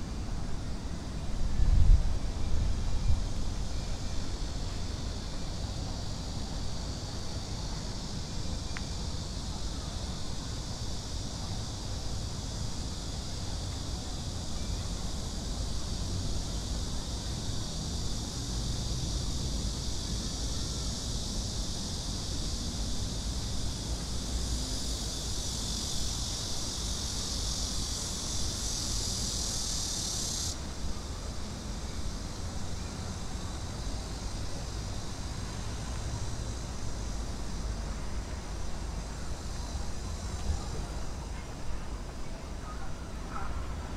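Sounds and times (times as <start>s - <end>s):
cicadas buzzing: 0.0s - 43.9s
city traffic rumble: 0.0s - 43.9s.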